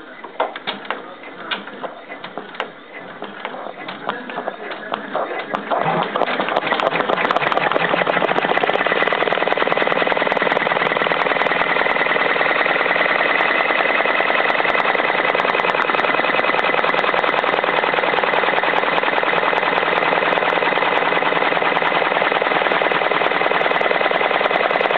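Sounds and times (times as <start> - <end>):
embroidery machine clattering: 0.0 - 24.9.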